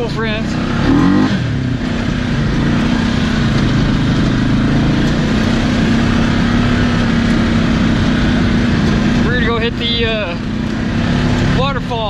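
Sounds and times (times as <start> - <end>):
single-cylinder engine droning: 0.0 - 12.0.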